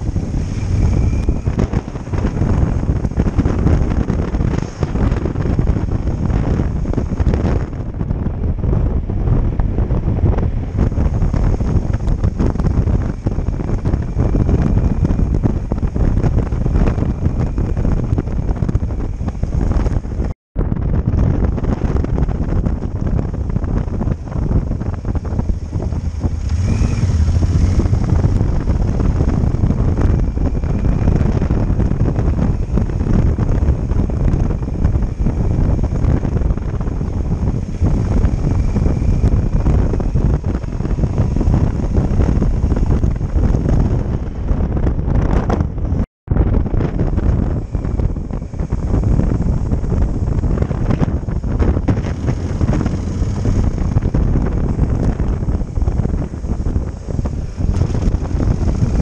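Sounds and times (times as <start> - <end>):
motorcycle engine running: 0.0 - 59.0
wind buffeting microphone: 0.0 - 59.0.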